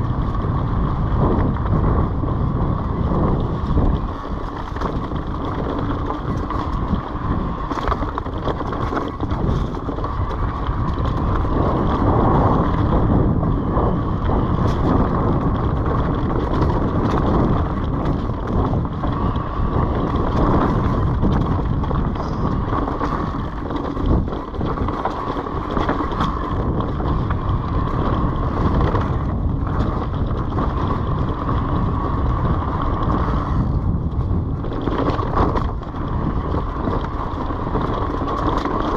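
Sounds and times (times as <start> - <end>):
bike tyres on leafy dirt: 0.0 - 38.9
wind buffeting microphone: 0.0 - 38.9.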